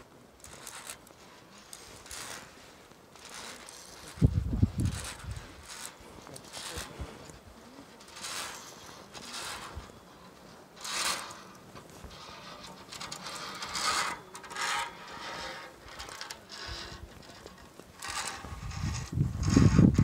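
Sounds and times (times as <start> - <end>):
metal connectors scraping steel cable: 0.3 - 20.0.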